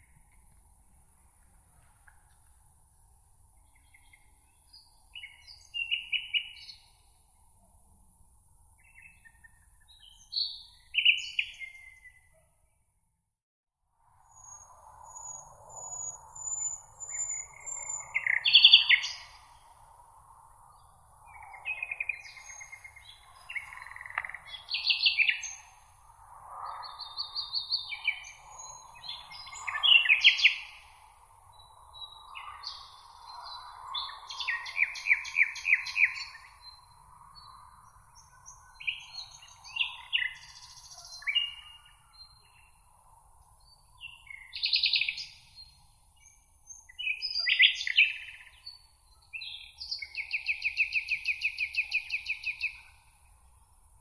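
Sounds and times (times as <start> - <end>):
songbirds singing: 3.5 - 7.2, 8.7 - 12.4, 14.3 - 54.0.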